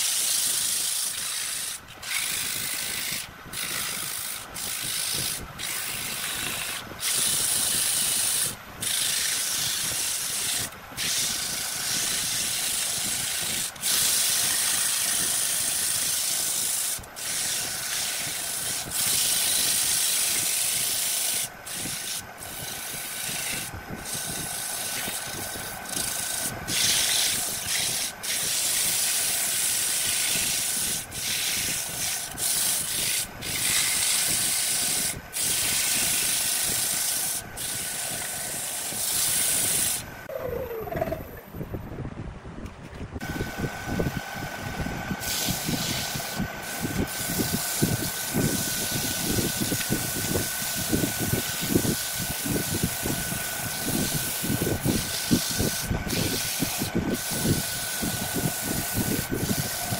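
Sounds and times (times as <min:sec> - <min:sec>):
sandpaper hissing on spinning wood: 0:00.0 - 0:41.1, 0:45.1 - 0:59.9.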